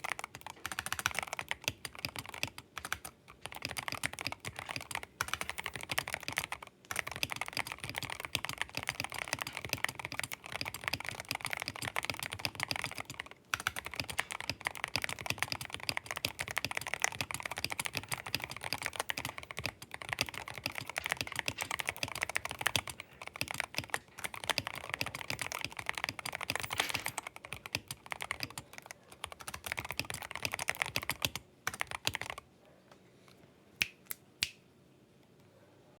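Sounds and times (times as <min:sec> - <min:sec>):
fast typing on mechanical keyboard: 0:00.0 - 0:32.4.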